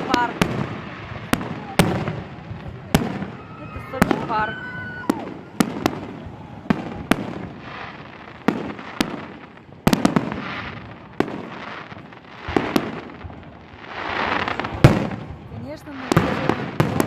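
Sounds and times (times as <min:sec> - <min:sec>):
fireworks bursting with bangs: 0:00.0 - 0:17.0
fireworks crackling hiss: 0:00.0 - 0:17.0.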